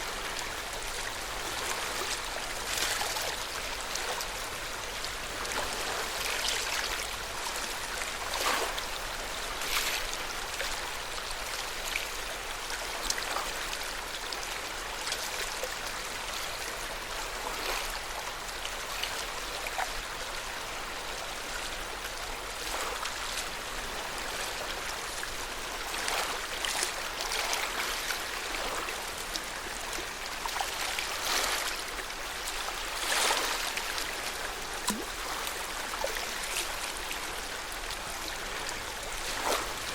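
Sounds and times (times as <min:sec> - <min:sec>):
lake waves lapping at shore: 0:00.0 - 0:39.9.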